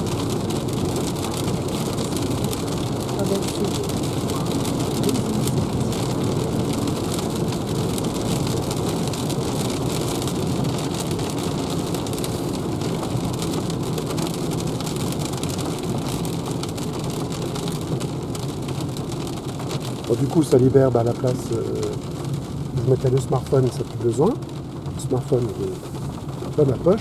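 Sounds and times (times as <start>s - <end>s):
heavy rain on car roof: 0.0s - 27.0s
wet road noise: 0.0s - 27.0s.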